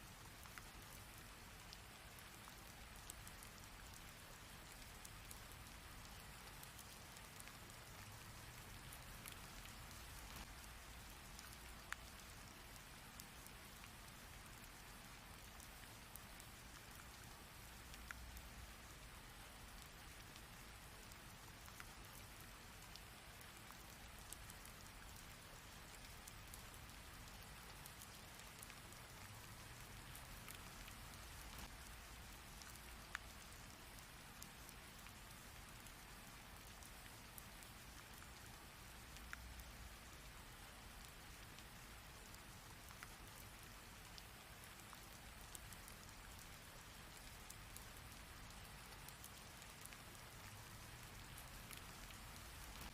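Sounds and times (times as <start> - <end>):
raindrop ticks: 0.0 - 52.9.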